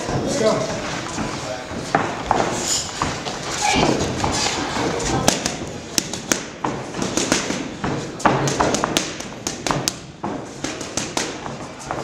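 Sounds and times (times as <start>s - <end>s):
boxing gloves smacking pads: 1.8s - 12.0s.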